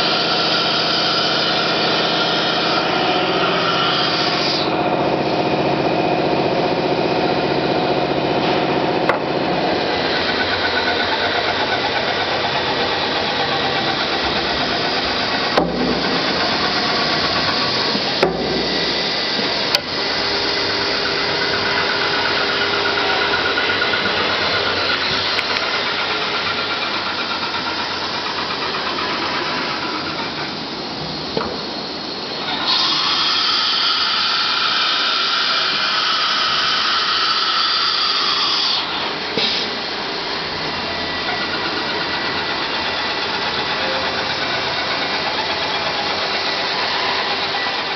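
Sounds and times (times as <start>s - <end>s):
router motor drone: 0.0s - 47.9s.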